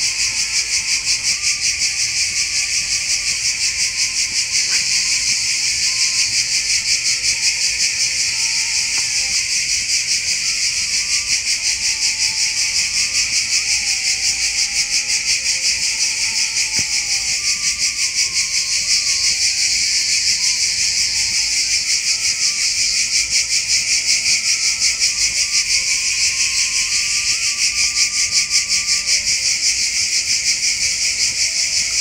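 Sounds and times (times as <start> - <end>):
high-pitched cicada chorus: 0.0 - 32.0.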